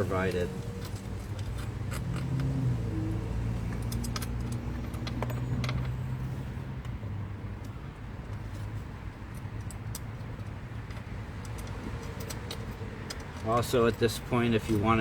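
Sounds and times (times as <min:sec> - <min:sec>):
low vehicle hum: 0:00.0 - 0:15.0.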